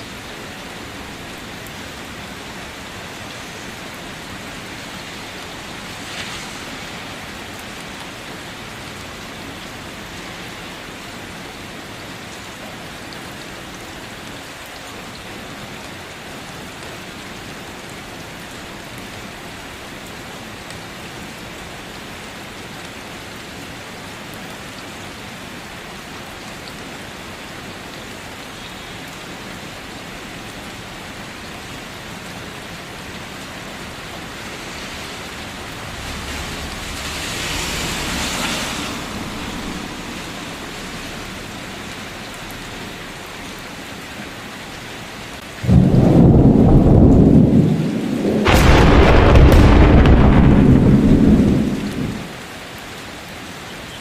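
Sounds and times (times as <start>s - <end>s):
rain pattering on surfaces: 0.0s - 54.0s.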